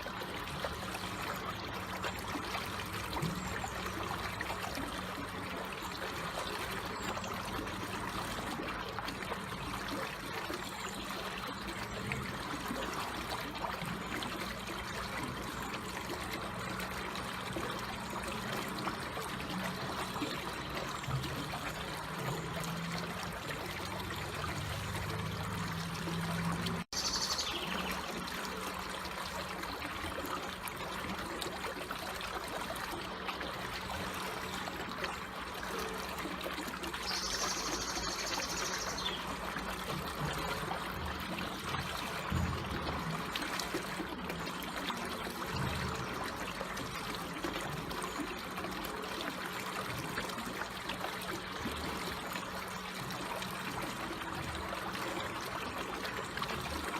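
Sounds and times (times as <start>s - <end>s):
stream water trickling: 0.0s - 56.9s.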